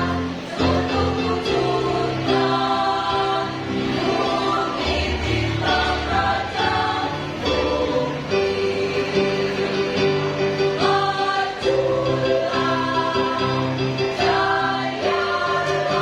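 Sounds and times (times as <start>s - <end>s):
choir singing in parts: 0.0s - 16.0s.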